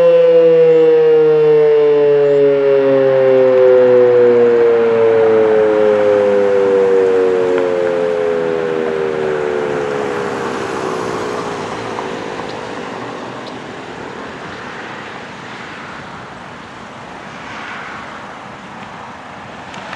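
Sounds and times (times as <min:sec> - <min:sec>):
warning siren winding down: 0:00.0 - 0:16.2
rushing background noise: 0:03.2 - 0:19.9.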